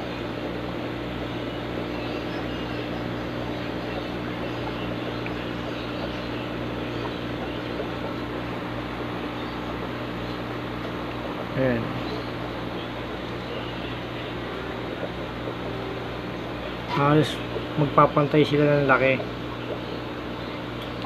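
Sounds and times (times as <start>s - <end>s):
aquarium air pump humming: 0.0s - 21.0s.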